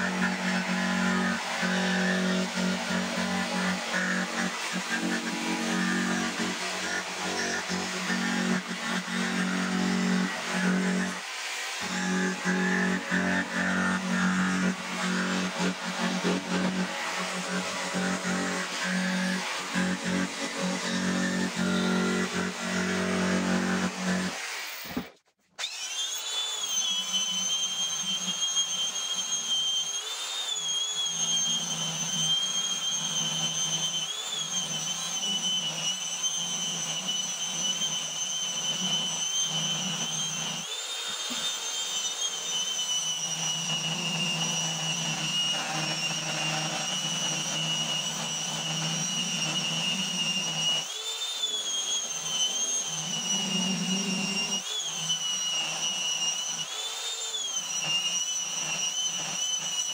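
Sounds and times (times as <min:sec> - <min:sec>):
power tool motor whining: 0:00.0 - 0:59.9.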